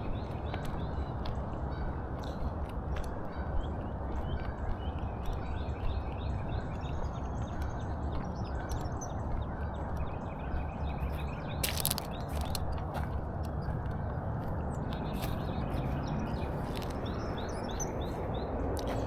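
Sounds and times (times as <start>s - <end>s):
small birds chirping: 0.0s - 19.0s
steady outdoor background noise: 0.0s - 19.0s.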